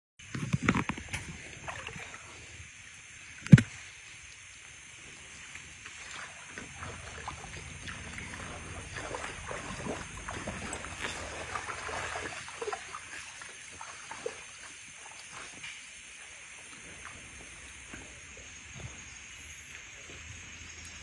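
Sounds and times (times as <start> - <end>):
stream water splashing: 0.2 - 19.2.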